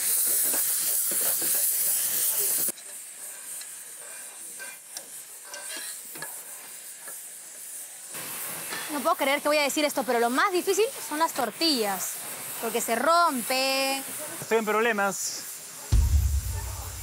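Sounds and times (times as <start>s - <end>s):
food sizzling in a pan: 0.0s - 17.0s
gas stove hissing: 0.0s - 17.0s.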